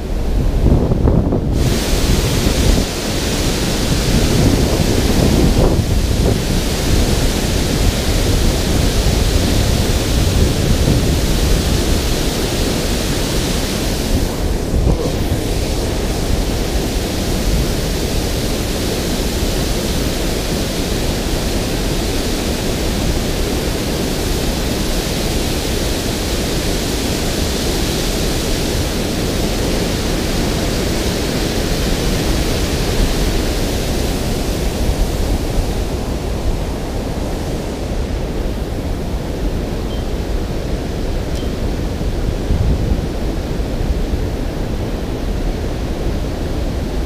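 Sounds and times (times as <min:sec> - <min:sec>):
water rushing over a spillway: 0:00.0 - 0:47.0.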